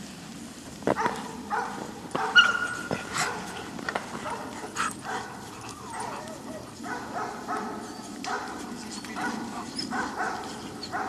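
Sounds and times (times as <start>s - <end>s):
dogs barking and yelping: 0.9s - 11.0s.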